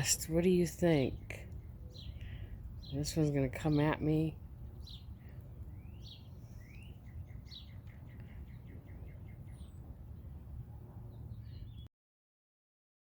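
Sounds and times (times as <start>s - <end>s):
small birds chirping: 0.0s - 11.9s
steady low hum: 0.0s - 11.9s.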